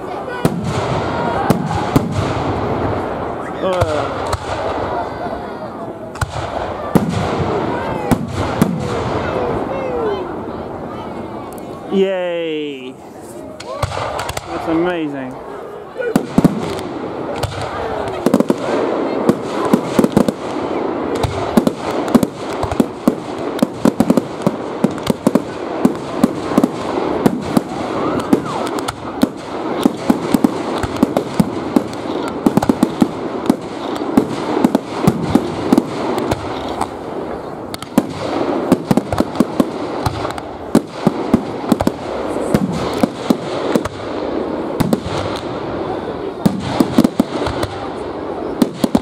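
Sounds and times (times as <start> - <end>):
fireworks bangs and crackles: 0.0 - 49.0.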